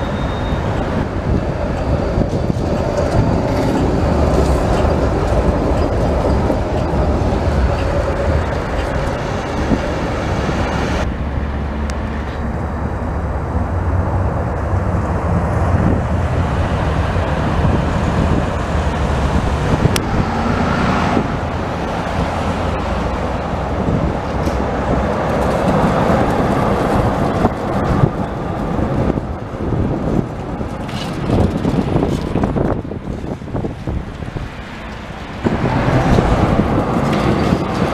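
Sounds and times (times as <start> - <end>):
street traffic rumble: 0.0 - 37.9
tram passing: 0.0 - 37.9.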